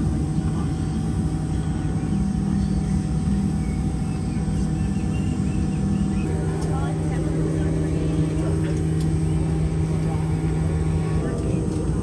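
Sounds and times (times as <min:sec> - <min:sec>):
cabin ventilation hum: 0:00.0 - 0:12.0.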